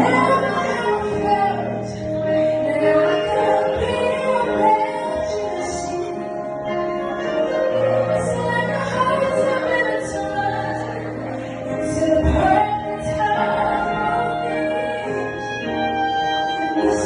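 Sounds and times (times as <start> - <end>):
string band playing slow music: 0.0 - 17.0.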